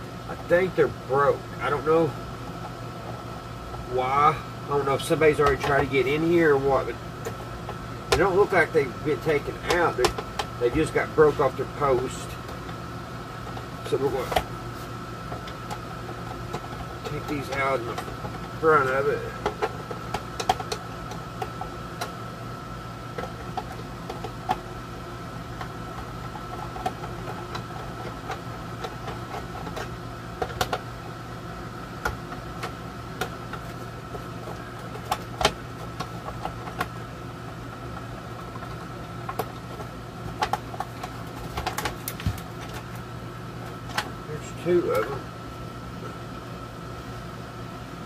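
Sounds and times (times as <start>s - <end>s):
air conditioner hum: 0.0s - 48.0s.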